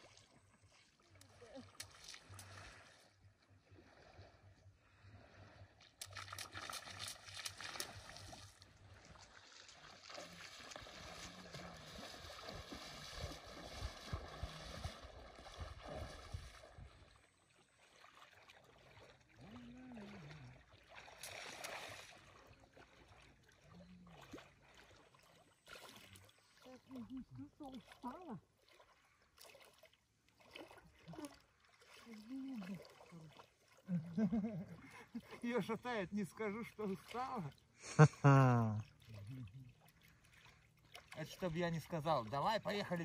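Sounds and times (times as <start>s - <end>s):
water sloshing and splashing: 0.0s - 37.9s, 38.8s - 43.0s.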